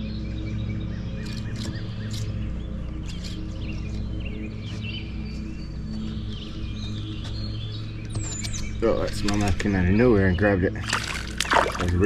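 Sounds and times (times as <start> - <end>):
background music with low tones: 0.0 - 12.0
songbirds chirping: 0.0 - 12.0.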